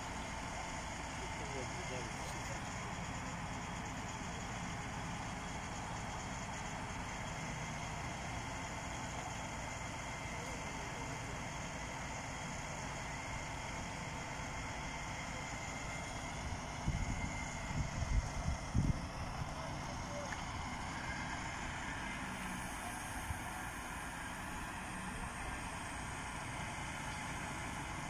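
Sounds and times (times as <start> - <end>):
truck engine running low revs: 0.0 - 28.0.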